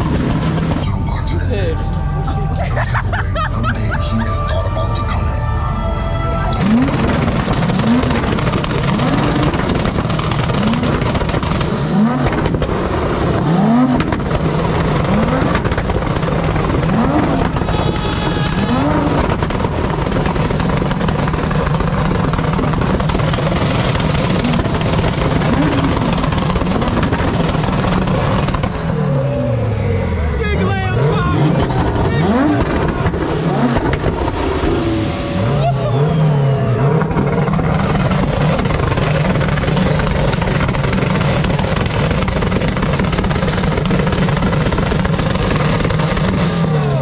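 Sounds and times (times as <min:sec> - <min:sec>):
vehicle engine revving: 0:00.0 - 0:47.0.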